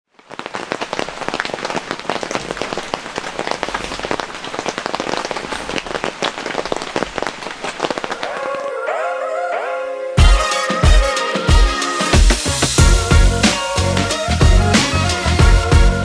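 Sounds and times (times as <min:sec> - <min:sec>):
rain drops pattering: 0:00.0 - 0:08.7, 0:10.2 - 0:16.0.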